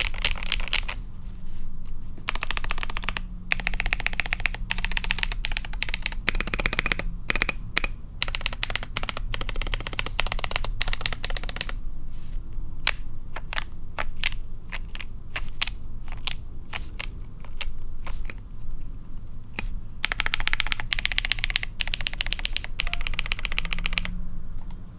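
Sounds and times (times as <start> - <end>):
mechanical keyboard typing: 0.0 - 1.0, 2.3 - 11.8, 12.8 - 18.4, 19.6 - 24.8.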